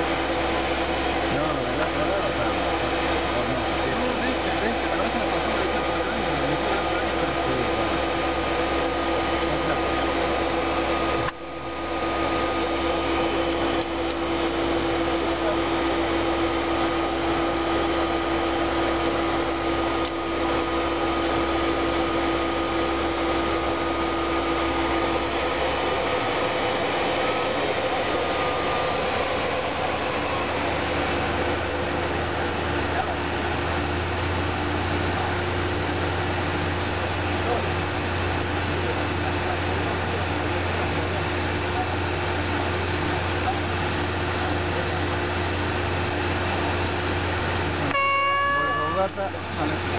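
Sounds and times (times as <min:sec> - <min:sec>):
jet engines humming: 0:00.0 - 0:49.9
steady whine: 0:00.0 - 0:49.9.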